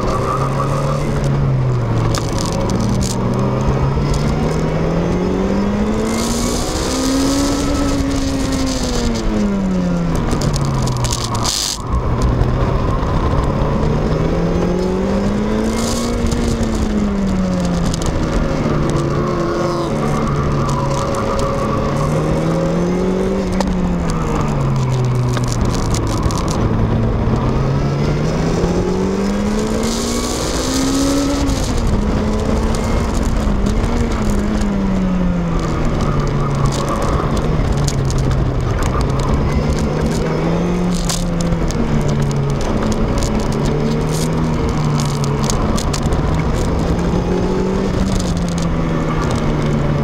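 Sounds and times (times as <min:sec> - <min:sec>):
sports car engine revving: 0:00.0 - 0:50.0.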